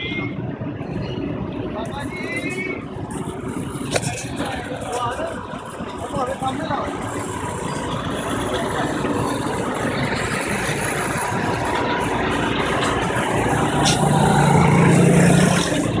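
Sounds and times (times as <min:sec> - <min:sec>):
street traffic noise: 0:00.0 - 0:16.0
nearby engine humming: 0:02.6 - 0:16.0.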